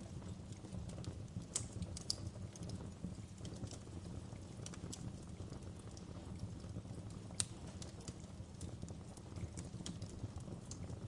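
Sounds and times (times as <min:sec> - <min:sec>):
burning wood crackling and popping: 0:00.0 - 0:11.0
low rumble of flames: 0:00.0 - 0:11.0.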